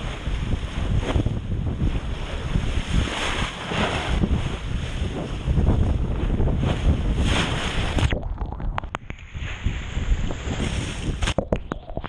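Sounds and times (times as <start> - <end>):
water splashing along boat hull: 0.0 - 12.0
wind buffeting microphone: 0.0 - 12.0.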